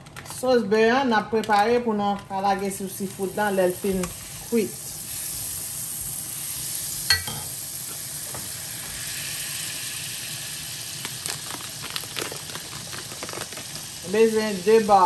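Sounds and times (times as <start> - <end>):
food sizzling in a pan: 2.6 - 15.0.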